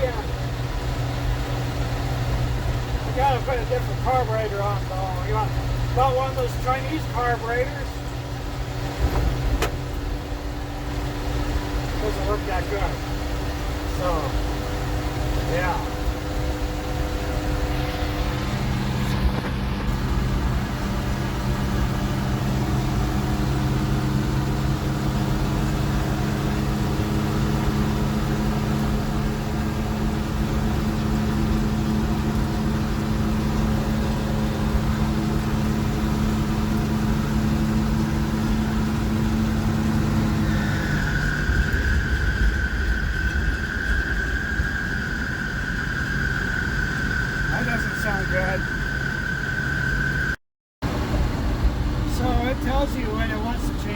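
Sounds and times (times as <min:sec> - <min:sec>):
truck engine running: 0:00.0 - 0:53.9
steady high whine: 0:01.2 - 0:24.6, 0:26.5 - 0:53.9.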